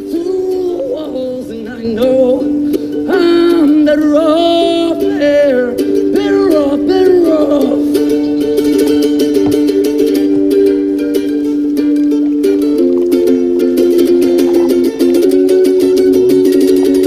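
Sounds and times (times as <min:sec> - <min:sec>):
sliding melody: 0:00.0 - 0:17.0
song with plucked strings: 0:00.0 - 0:17.0.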